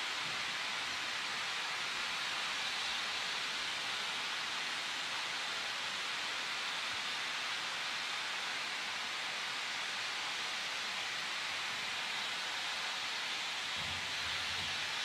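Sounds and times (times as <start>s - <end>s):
steam venting from locomotive: 0.0s - 15.0s.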